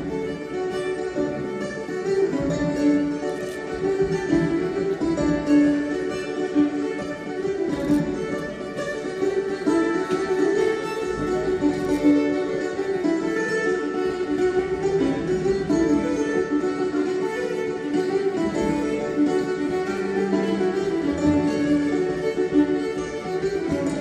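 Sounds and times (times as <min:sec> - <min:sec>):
fiddle melody: 0:00.0 - 0:24.0
mandolin: 0:00.0 - 0:24.0
strummed acoustic guitars: 0:00.0 - 0:24.0.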